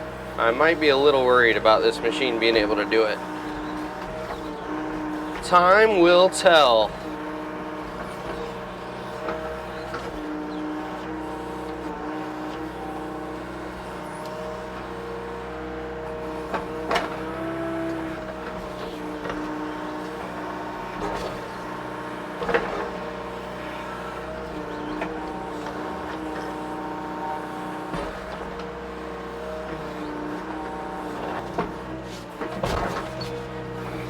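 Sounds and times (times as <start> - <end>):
diesel excavator engine: 0.0 - 34.0
hydraulic whine: 0.0 - 34.0.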